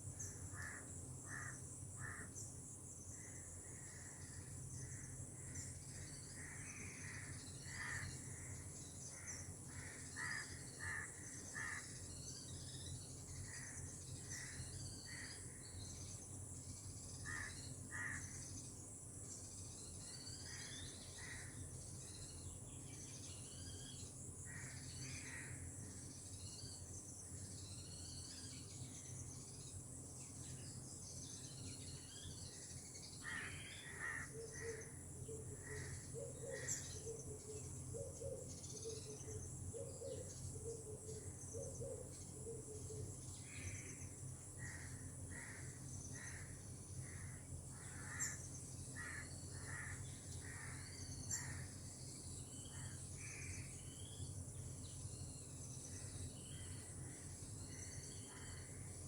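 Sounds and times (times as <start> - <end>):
insect drone: 0.0 - 59.0
bird calls and chirps: 0.2 - 59.0.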